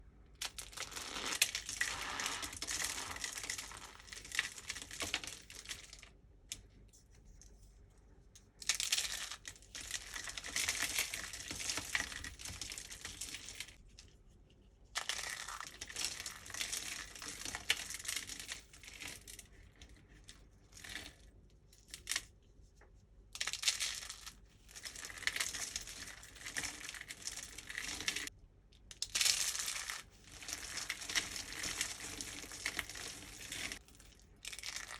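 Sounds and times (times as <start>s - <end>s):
starch soap crumbling and crackling: 0.1s - 34.9s.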